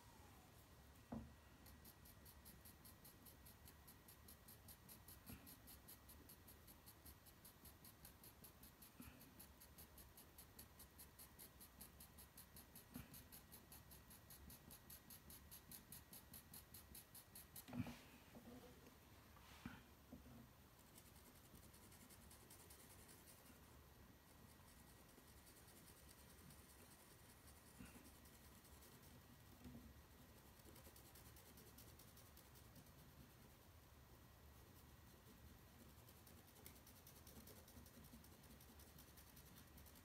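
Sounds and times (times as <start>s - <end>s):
pencil scratching on paper: 1.1s - 18.6s, 20.7s - 40.0s.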